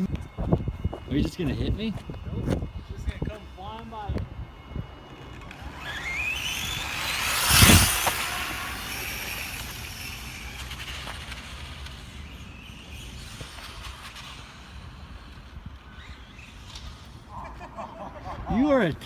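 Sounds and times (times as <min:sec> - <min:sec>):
electric motor whining: 0:00.0 - 0:17.3.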